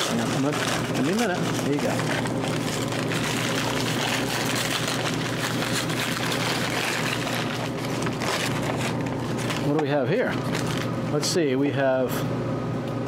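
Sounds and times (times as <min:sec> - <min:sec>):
paper bags rustling: 0:00.0 - 0:11.0.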